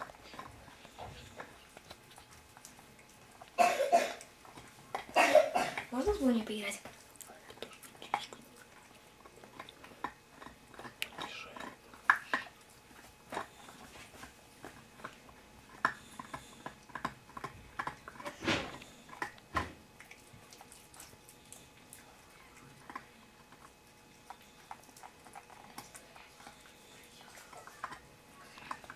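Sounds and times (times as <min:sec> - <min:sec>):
puppy teeth crunching chew stick: 0:00.0 - 0:03.6, 0:04.2 - 0:05.2, 0:06.8 - 0:28.9.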